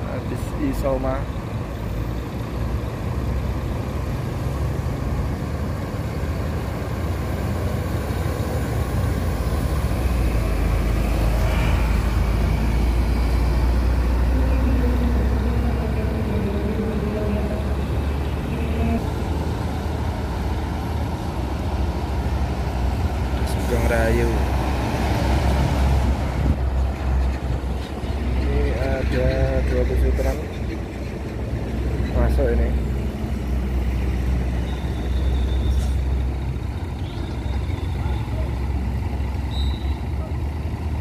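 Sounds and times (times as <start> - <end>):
bus diesel engine driving past: 0.0 - 41.0.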